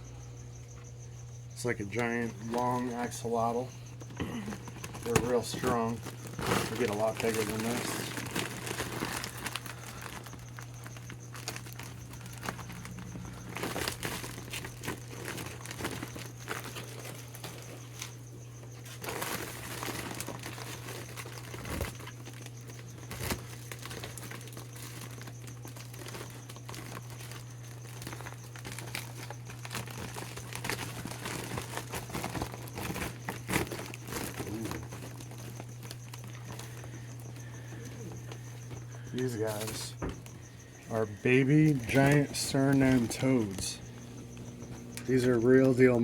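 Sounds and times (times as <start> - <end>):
steady low hum: 0.0 - 46.0
plastic bags crinkling: 2.0 - 46.0.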